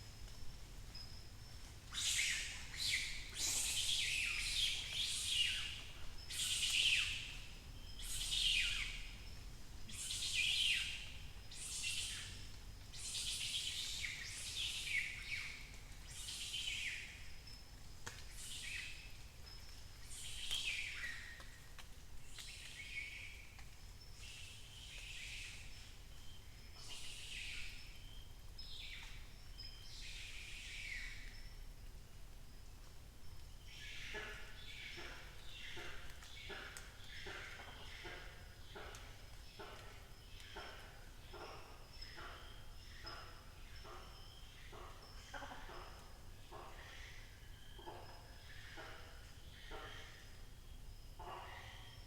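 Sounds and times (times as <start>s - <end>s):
dawn chorus of birds: 0.0s - 52.0s.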